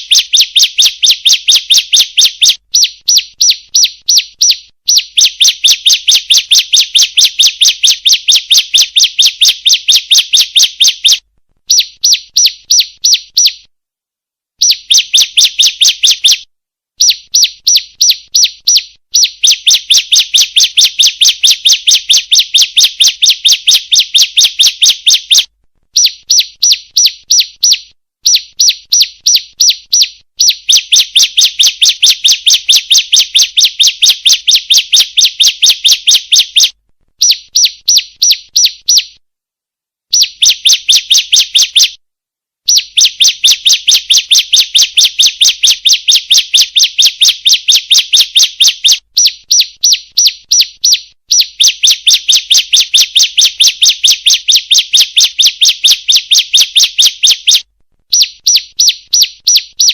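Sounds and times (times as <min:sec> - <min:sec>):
bird high chirping calls: 0:00.0 - 0:13.7, 0:14.6 - 0:39.2, 0:40.1 - 0:42.0, 0:42.7 - 0:59.9.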